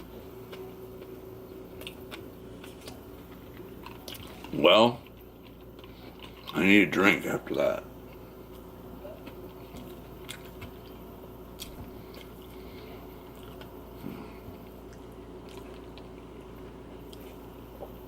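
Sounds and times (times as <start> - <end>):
man chewing food: 0.0 - 6.6, 7.9 - 18.0.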